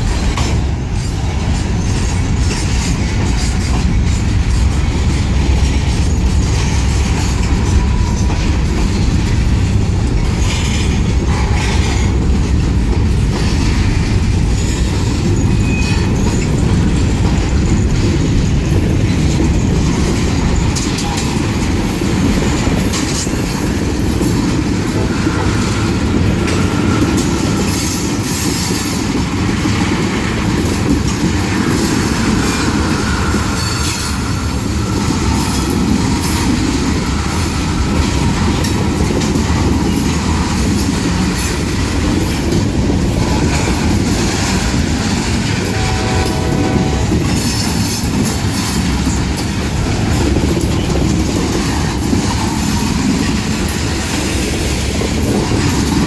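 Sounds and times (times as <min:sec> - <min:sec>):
freight train wheels rumbling: 0:00.0 - 0:56.0
train cars clanking: 0:00.0 - 0:56.0.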